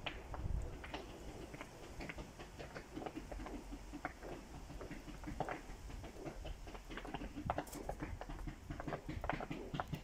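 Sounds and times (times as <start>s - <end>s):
distant fireworks popping: 0.0s - 10.0s.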